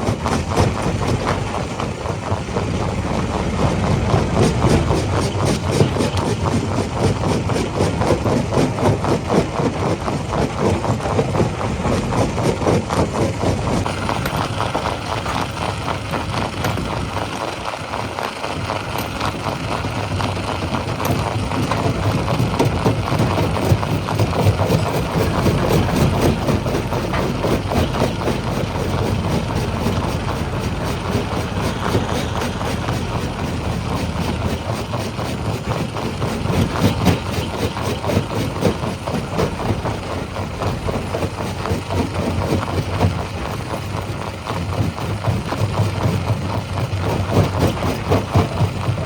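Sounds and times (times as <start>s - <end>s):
rock-crushing machinery running: 0.0s - 49.0s.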